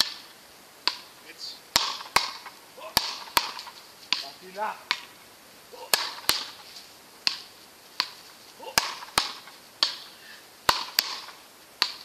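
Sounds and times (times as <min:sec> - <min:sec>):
paddle rackets hitting ball: 0:00.8 - 0:01.1, 0:01.7 - 0:05.1, 0:05.8 - 0:12.0.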